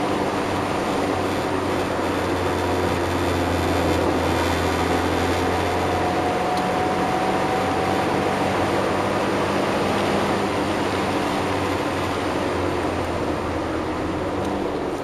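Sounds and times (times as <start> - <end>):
car engine hum: 0.0 - 15.0
road and wind noise: 0.0 - 15.0.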